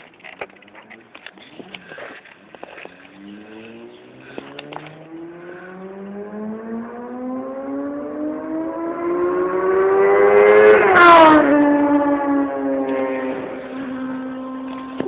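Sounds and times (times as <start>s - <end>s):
motorcycle engine accelerating: 2.7s - 15.0s.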